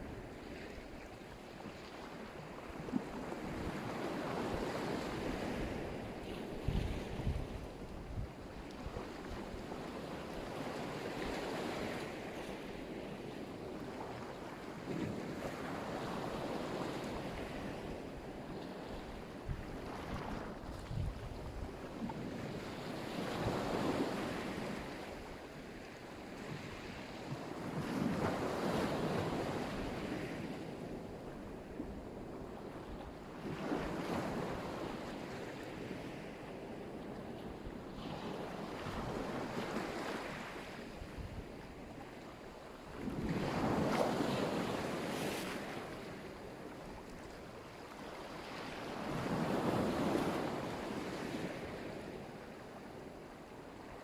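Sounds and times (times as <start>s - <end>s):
surf waves breaking: 0.0s - 54.0s.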